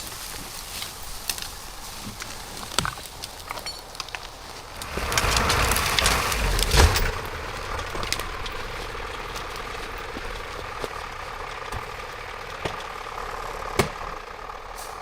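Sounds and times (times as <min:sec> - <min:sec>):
falling tree rush and thump: 0:00.0 - 0:14.2
wood cracking and snapping: 0:00.0 - 0:14.2
engine idling: 0:00.2 - 0:15.0.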